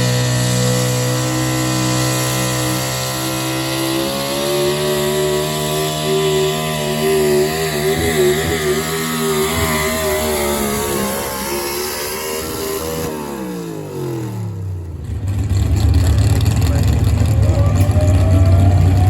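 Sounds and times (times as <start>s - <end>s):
truck engine at high revs: 0.0s - 19.0s.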